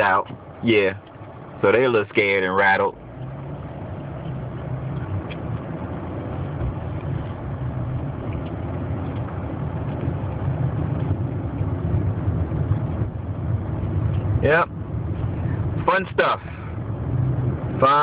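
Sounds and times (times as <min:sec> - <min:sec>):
car engine hum: 0:00.0 - 0:18.0
road noise inside car: 0:00.0 - 0:18.0.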